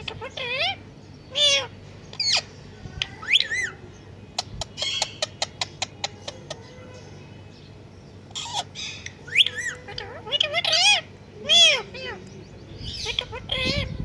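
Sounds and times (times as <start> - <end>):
parrot squawking: 0.0 - 3.8, 4.4 - 7.2, 8.3 - 14.0.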